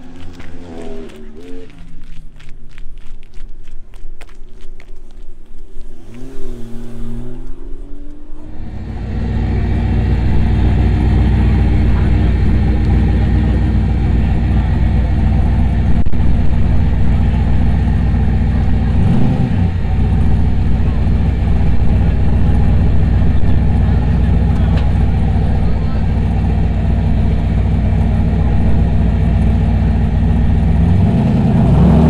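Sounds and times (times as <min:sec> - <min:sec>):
car engine idling: 0:00.0 - 0:02.1, 0:05.6 - 0:32.0.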